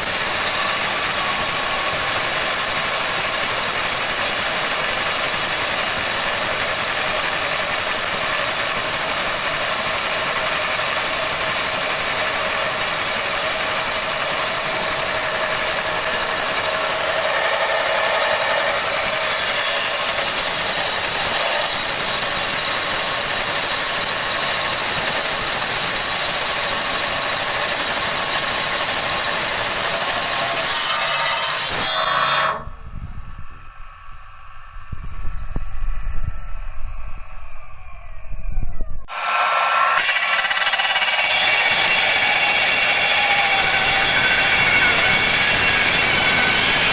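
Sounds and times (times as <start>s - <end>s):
saw cutting steel: 0.0s - 32.7s, 39.1s - 46.9s.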